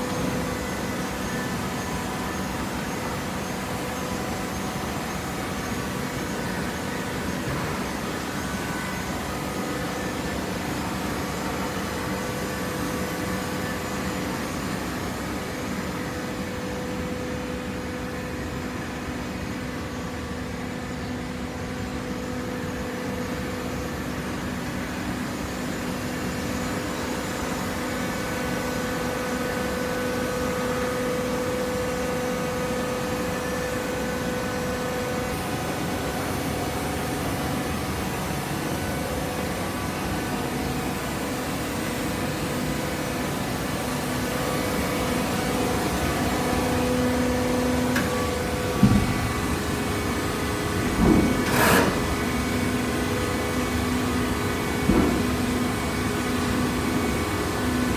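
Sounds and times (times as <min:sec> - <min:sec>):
baler motor and pump humming: 0:00.0 - 0:57.9.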